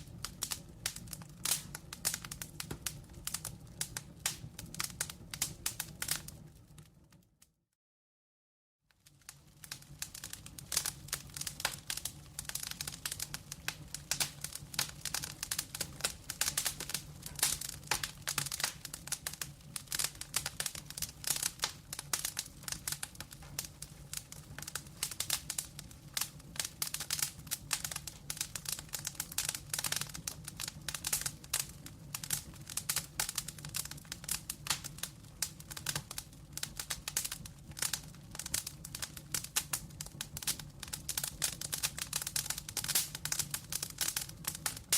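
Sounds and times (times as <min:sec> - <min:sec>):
wood fire crackling: 0:00.0 - 0:07.4, 0:08.9 - 0:44.9.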